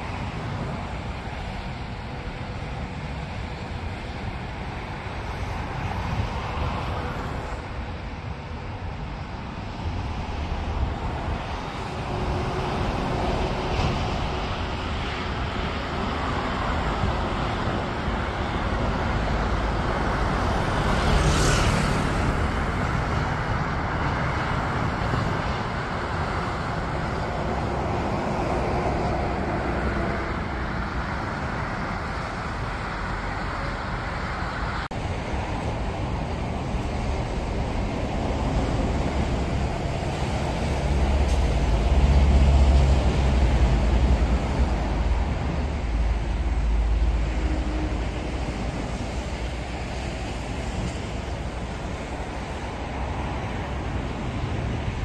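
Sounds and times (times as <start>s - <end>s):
jet airliner engine rumble: 0.0s - 55.0s.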